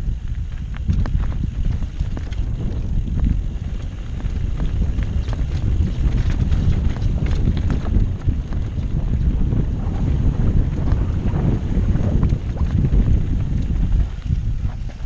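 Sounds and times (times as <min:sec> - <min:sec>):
bike rattling and knocking: 0:00.0 - 0:15.0
wind rumble on microphone: 0:00.0 - 0:15.0.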